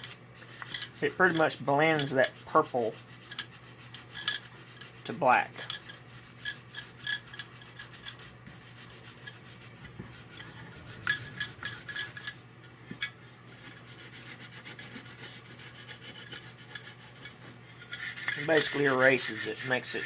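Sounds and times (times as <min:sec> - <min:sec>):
applicator scrubbing: 0:00.0 - 0:20.0
steady low hum: 0:00.0 - 0:20.0.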